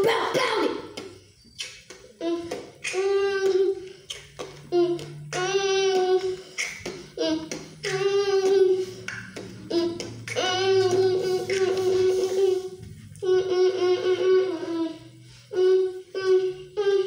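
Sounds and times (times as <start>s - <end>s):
child singing wordless phrase: 2.2s - 4.0s, 4.6s - 17.0s.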